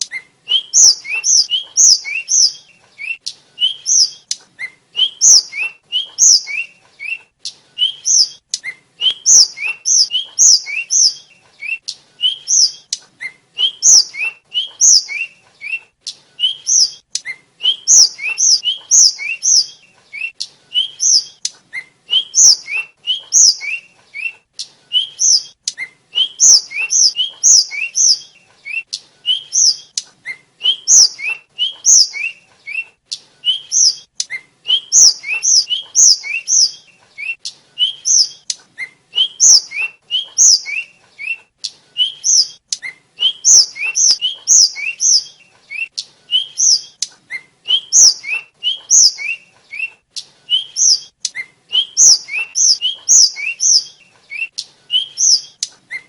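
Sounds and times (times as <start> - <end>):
small bird chirping: 0.0 - 56.0.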